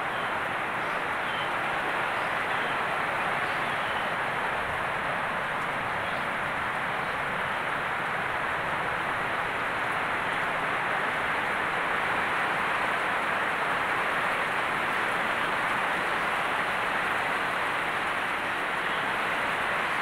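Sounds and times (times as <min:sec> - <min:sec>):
heavy rain on leaves: 0:00.0 - 0:20.0.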